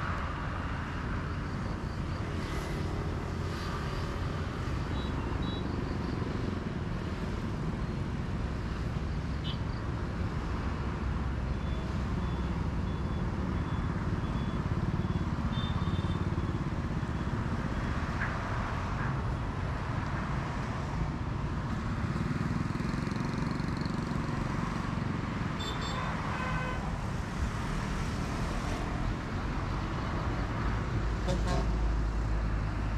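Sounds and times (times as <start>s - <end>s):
traffic rumble: 0.0s - 32.9s.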